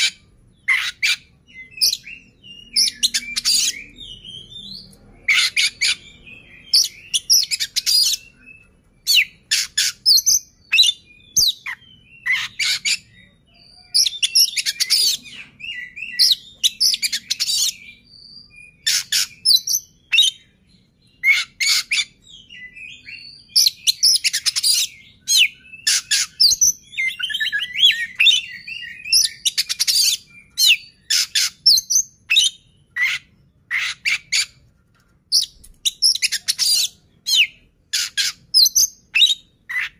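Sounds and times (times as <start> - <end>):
bird whistled song: 0.0 - 34.6, 35.3 - 39.9.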